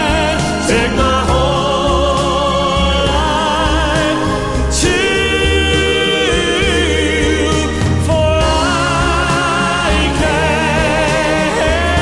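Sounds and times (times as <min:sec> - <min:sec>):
slow song with vibrato melody: 0:00.0 - 0:12.0
steady bass line: 0:00.0 - 0:12.0.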